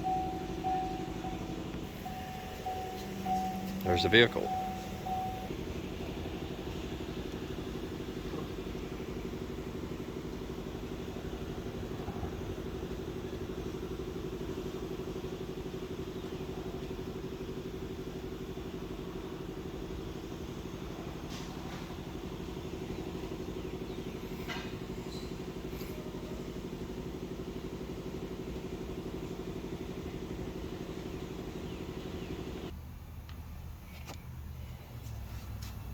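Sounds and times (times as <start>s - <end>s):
steady mechanical hum: 0.0s - 35.9s.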